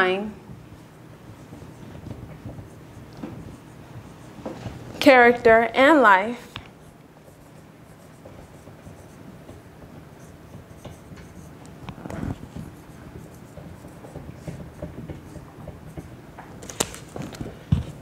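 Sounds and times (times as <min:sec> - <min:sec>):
marker scratching on whiteboard: 0:00.7 - 0:05.5, 0:06.5 - 0:18.0
marker bump on whiteboard: 0:01.2 - 0:05.1, 0:06.5 - 0:18.0.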